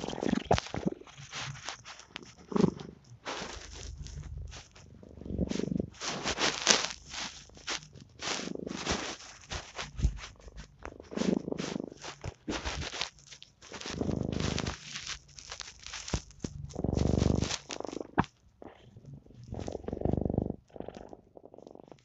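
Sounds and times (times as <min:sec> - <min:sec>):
cat purring: 0:00.0 - 0:22.0
soft clicks and crackles: 0:00.0 - 0:22.0.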